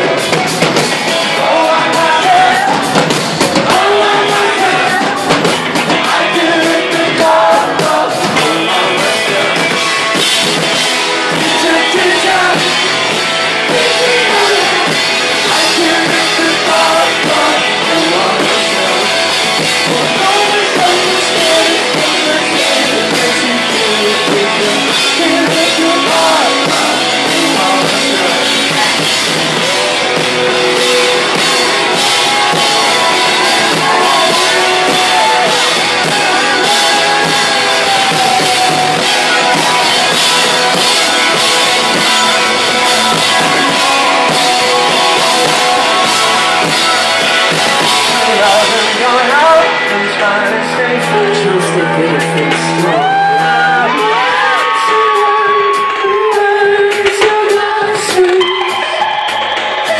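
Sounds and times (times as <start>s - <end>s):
person singing: 0.0s - 59.1s
live rock band playing: 0.0s - 59.9s.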